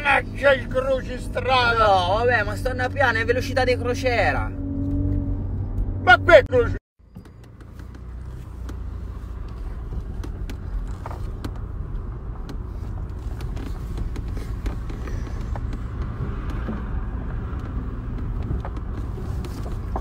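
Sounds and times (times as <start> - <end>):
engine and road rumble: 0.0 - 20.0.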